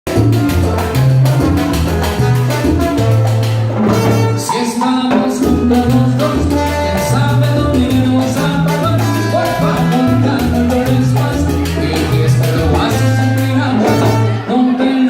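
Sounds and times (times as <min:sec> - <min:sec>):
percussion beat: 0:00.0 - 0:14.5
bass line: 0:00.0 - 0:14.8
salsa band playing: 0:00.0 - 0:15.0.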